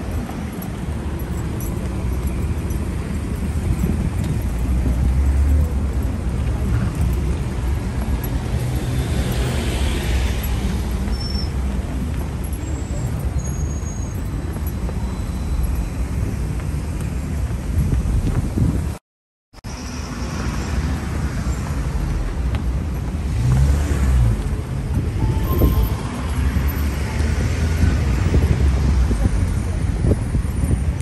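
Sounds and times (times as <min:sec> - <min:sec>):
road traffic rumble: 0:00.0 - 0:19.0, 0:19.6 - 0:31.0.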